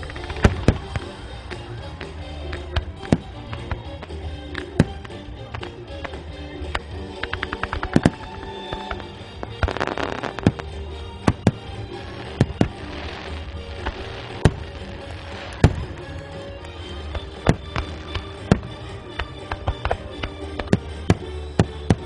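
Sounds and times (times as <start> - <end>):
fireworks bangs: 0.0 - 5.1, 7.2 - 22.0
fireworks crackling: 0.0 - 22.0
music: 0.0 - 22.0.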